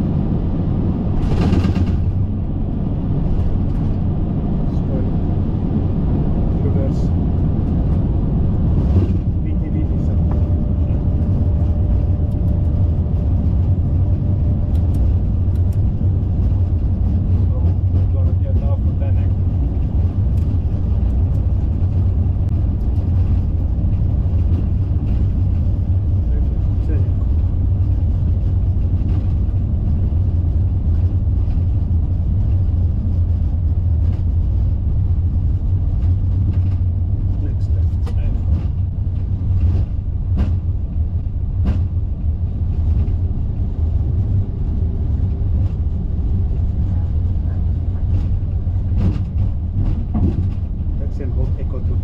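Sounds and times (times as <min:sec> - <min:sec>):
low rumble in aircraft cockpit: 0:00.0 - 0:52.0.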